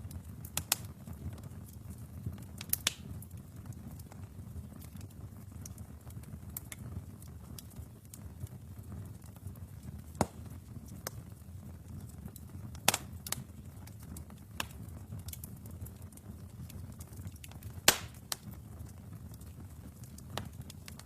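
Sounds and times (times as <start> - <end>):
loud fire snaps: 0.0 - 21.0
wood fire crackling: 0.0 - 21.0.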